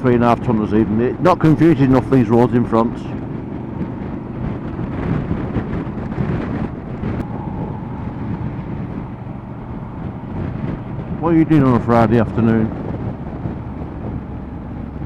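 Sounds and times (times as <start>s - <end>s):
motorcycle engine drone: 0.0s - 15.0s
wind rushing over microphone: 0.0s - 15.0s.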